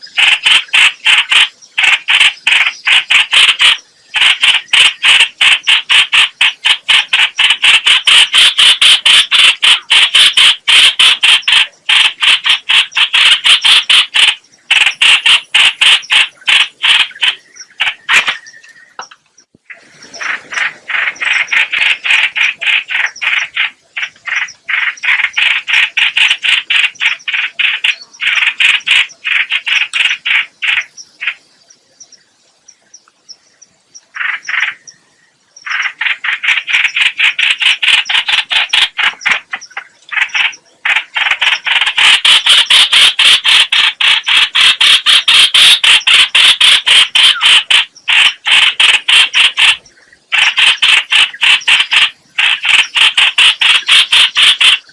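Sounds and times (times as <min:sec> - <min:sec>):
bird rapid chattering call: 0:00.0 - 0:31.5, 0:34.1 - 0:35.0, 0:35.6 - 0:54.9.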